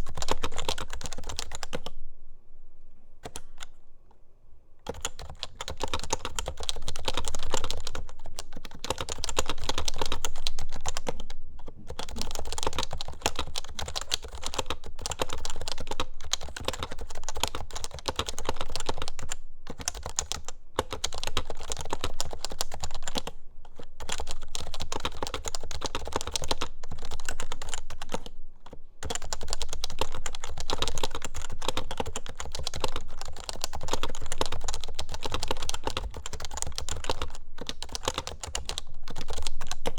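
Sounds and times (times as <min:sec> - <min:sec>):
keyboard typing: 0:00.0 - 0:02.0, 0:03.2 - 0:03.8, 0:04.8 - 0:39.9.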